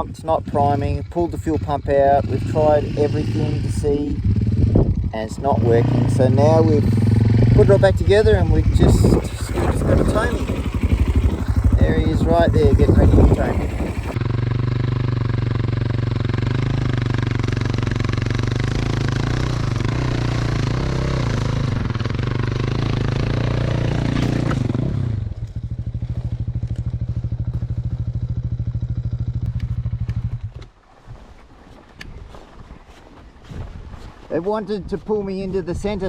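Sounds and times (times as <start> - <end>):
dirt bike engine running: 0.0 - 30.8.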